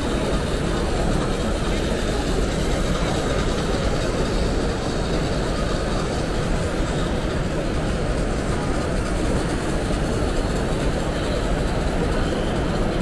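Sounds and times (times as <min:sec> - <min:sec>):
exhibition hall background noise: 0:00.0 - 0:13.0.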